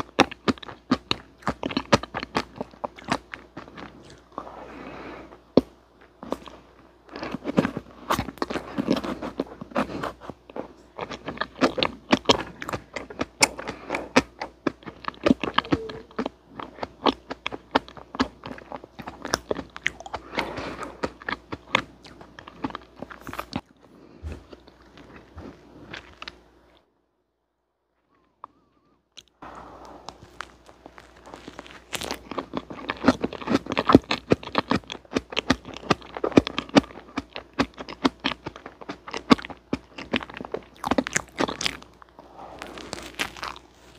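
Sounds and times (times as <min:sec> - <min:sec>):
chewing with mouth clicks: 0:00.0 - 0:26.4, 0:30.1 - 0:43.9.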